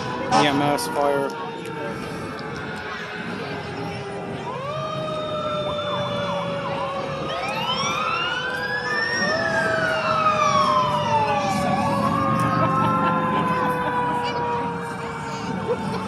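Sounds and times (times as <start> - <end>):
emergency vehicle sirens: 0.0 - 16.0.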